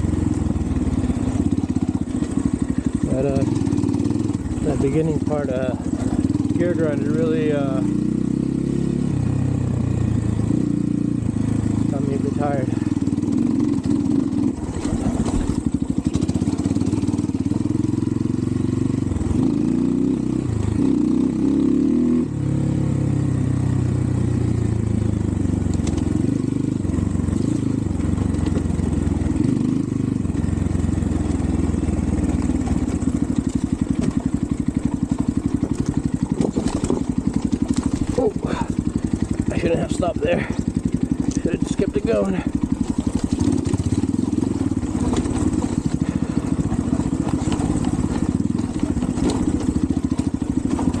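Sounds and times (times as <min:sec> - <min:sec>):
dirt bike engine revving and idling: 0:00.0 - 0:51.0.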